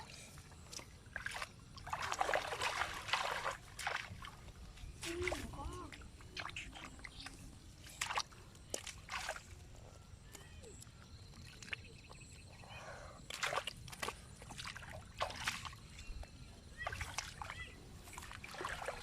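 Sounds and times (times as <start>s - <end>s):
shallow water sloshing and splashing: 0.0s - 9.6s, 13.2s - 19.0s.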